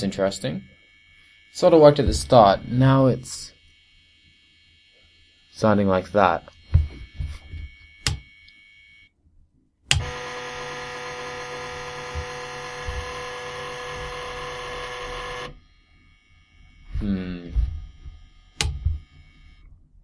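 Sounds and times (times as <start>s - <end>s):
stepper motor buzzing tone: 0.0s - 9.1s, 9.9s - 19.7s.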